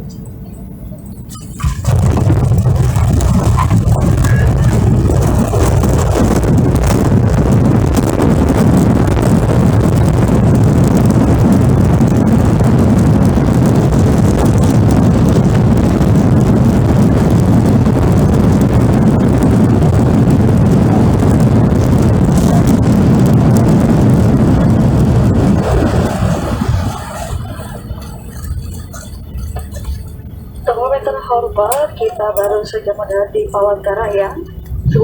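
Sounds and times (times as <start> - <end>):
jet airliner cabin rumble: 0.0 - 35.0.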